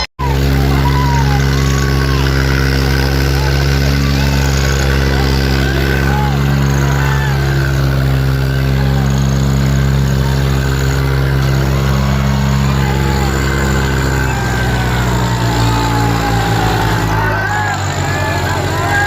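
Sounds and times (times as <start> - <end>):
tractor diesel engines under load: 0.0 - 19.0.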